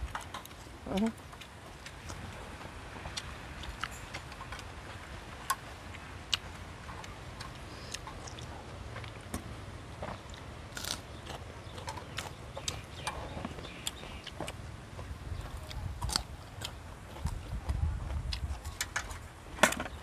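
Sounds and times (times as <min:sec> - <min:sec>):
low steady hum: 0:00.0 - 0:20.0
soft irregular clicks and ticks: 0:00.0 - 0:20.0.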